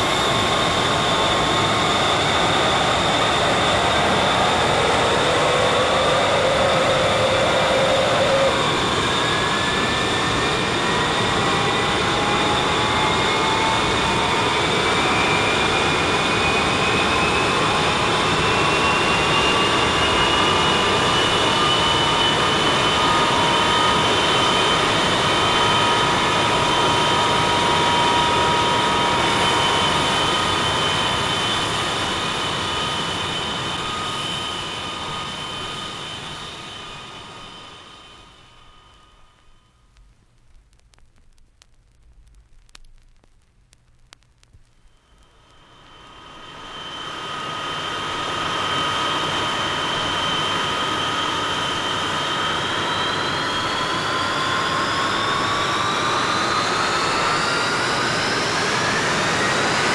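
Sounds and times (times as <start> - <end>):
jet engines roaring with turbine whine: 0.0 - 40.0, 44.8 - 59.9.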